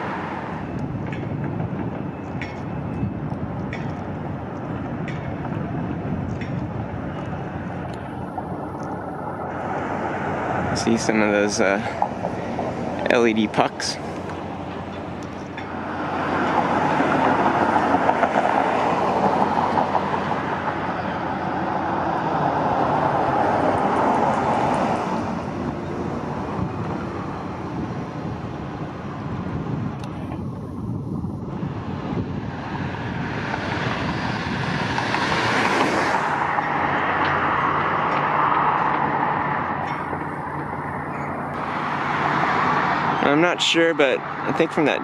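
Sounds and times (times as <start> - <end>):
road traffic rushing: 0.0 - 45.0.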